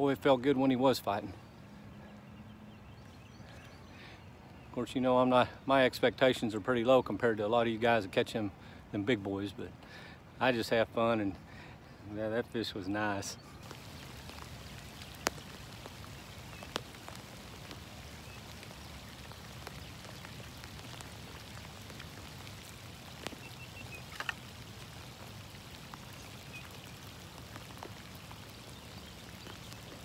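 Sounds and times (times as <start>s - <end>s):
light rain falling: 0.0s - 30.0s.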